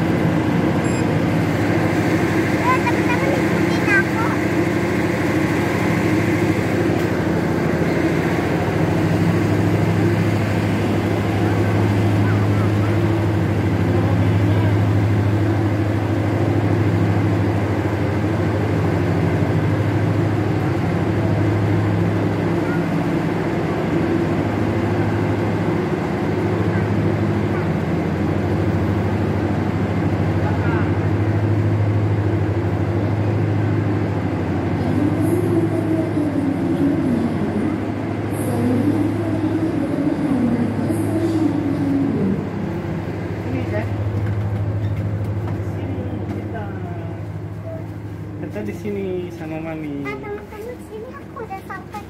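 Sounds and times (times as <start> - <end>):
train diesel engine idling: 0.0 - 52.0.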